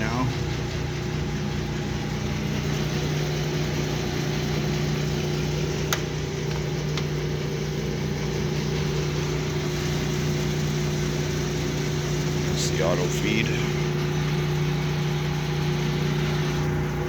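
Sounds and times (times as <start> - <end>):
metal lathe motor and gear hum: 0.0 - 17.0.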